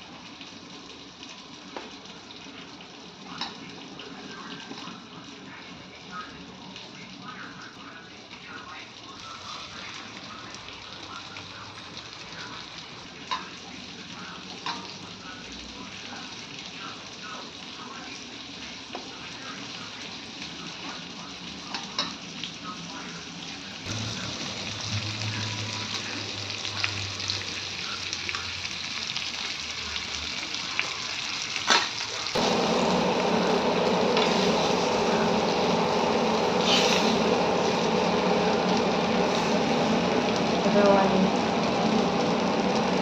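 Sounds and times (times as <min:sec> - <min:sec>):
fish frying in hot oil: 0:00.0 - 0:43.0.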